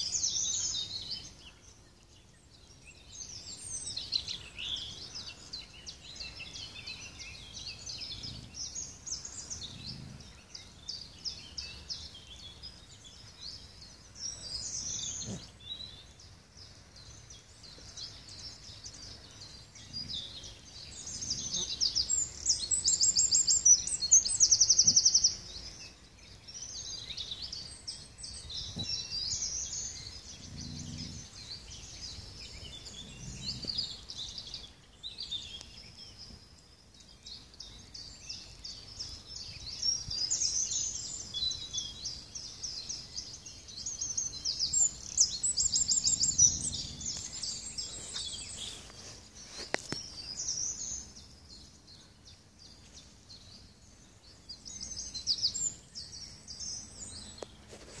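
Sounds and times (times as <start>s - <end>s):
songbirds trilling and chirping: 0.0s - 58.0s.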